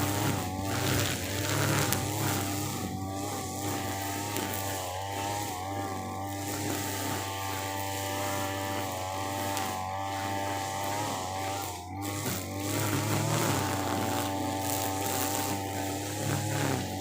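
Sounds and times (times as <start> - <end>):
brush cutter engine at full throttle: 0.0 - 17.0.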